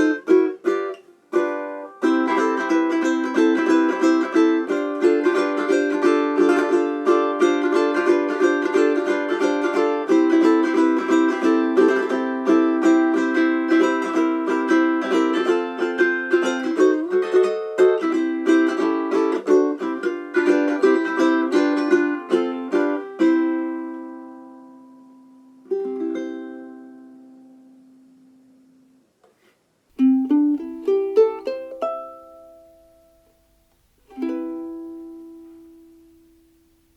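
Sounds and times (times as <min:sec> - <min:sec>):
ukulele plucked melody and chords: 0:00.0 - 0:36.9.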